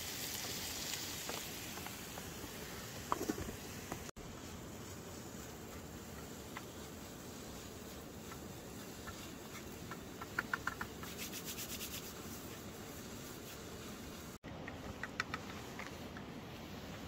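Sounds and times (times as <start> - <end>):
onions frying: 0.0 - 17.0.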